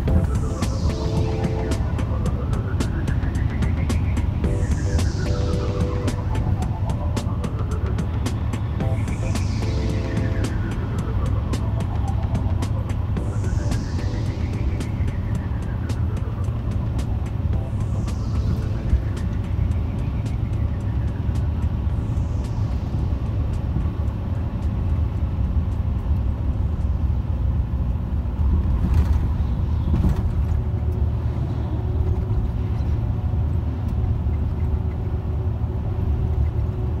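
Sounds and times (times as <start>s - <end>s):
trucks passing: 0.0s - 37.0s
vehicle road and engine rumble: 0.0s - 37.0s.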